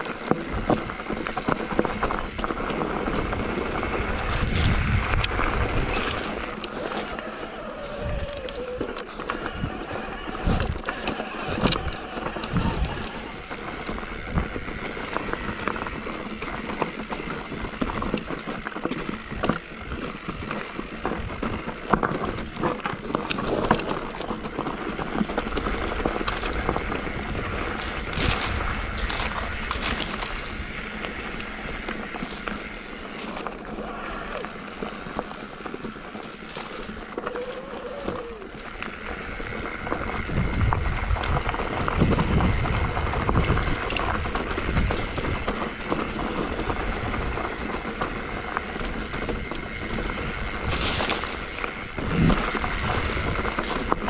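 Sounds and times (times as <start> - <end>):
bike rattling and knocking: 0.0 - 54.0
bike tyres crunching over dirt: 0.0 - 54.0.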